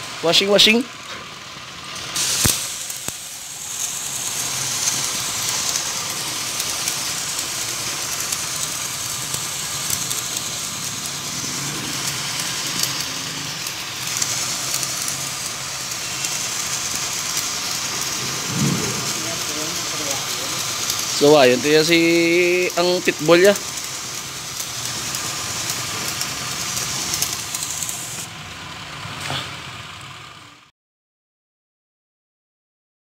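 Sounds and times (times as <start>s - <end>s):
hose nozzle spraying water: 1.8s - 28.4s.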